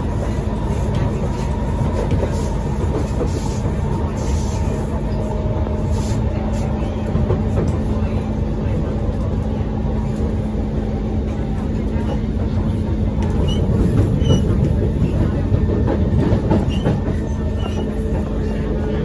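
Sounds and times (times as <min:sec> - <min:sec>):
train wheel-on-rail running noise: 0:00.0 - 0:19.0.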